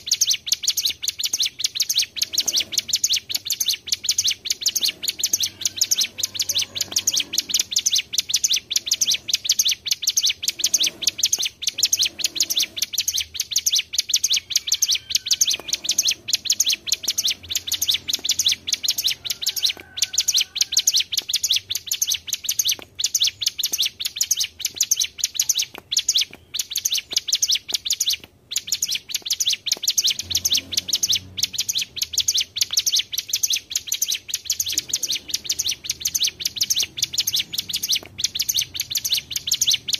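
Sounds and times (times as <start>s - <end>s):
bird singing fast high chirps: 0.0s - 39.9s.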